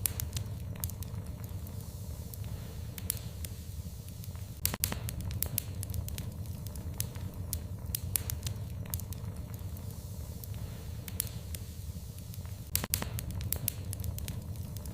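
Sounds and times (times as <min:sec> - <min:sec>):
fire crackling and popping: 0:00.0 - 0:14.9
low rumble of flames: 0:00.0 - 0:14.9.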